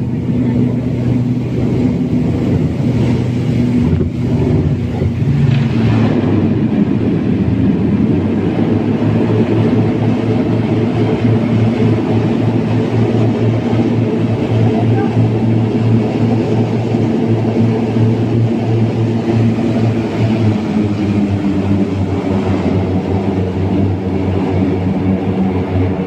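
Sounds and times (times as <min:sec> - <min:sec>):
turboprop engine drone: 0:00.0 - 0:26.0.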